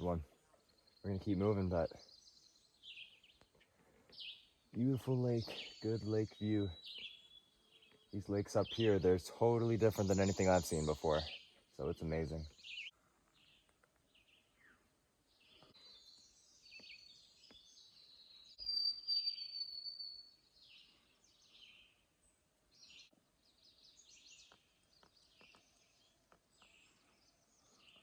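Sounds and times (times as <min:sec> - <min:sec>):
songbirds singing and calling: 0:00.0 - 0:28.0.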